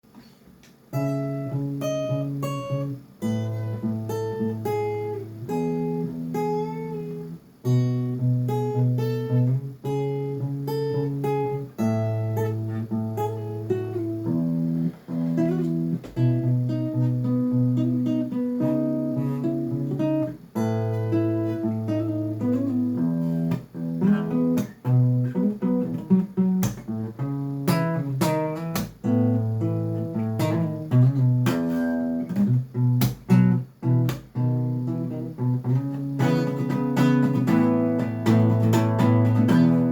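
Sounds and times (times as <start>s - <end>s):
acoustic guitar: 0.0s - 39.9s.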